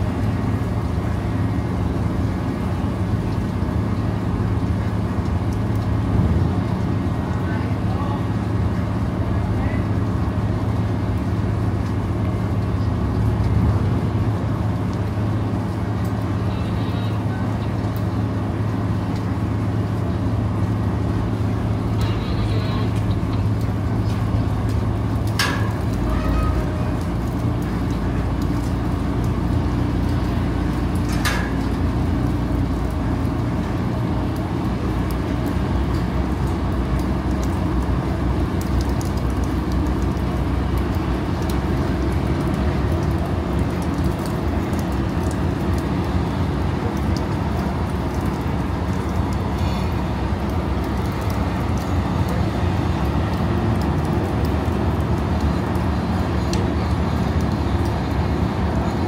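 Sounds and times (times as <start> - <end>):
rain on steel deck: 0.0 - 59.0
ship engines humming: 0.0 - 59.0.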